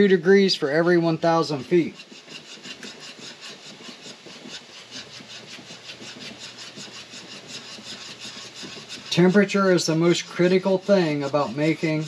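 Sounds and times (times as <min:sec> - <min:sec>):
whisk scraping a pan: 0:00.0 - 0:12.0.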